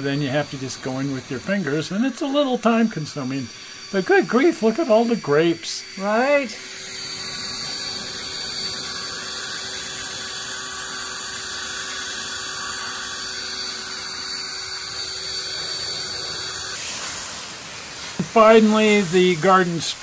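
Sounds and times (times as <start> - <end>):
garden hose spraying water: 0.0 - 20.0
leaf blower whining: 0.0 - 20.0.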